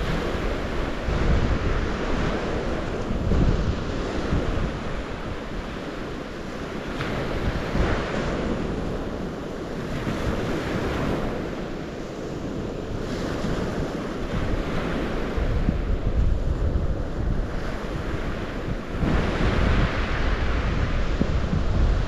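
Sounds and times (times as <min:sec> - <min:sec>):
water waves washing in: 0:00.0 - 0:22.0
wind rumbling on microphone: 0:00.0 - 0:22.0.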